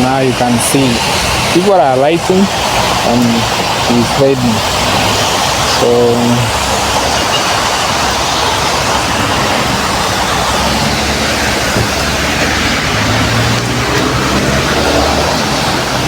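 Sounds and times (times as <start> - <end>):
heavy rain falling: 0.0 - 16.0
vehicle engines humming: 0.0 - 16.0.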